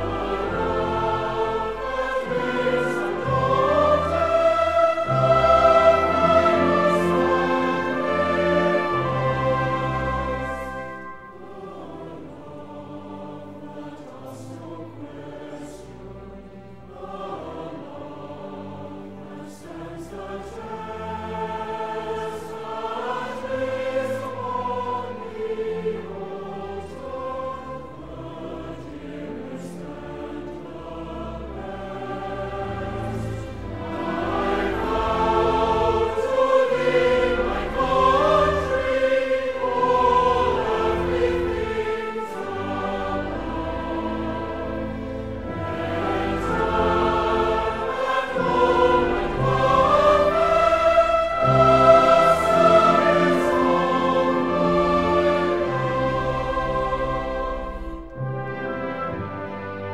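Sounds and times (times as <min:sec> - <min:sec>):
choral music with orchestra: 0:00.0 - 0:59.9.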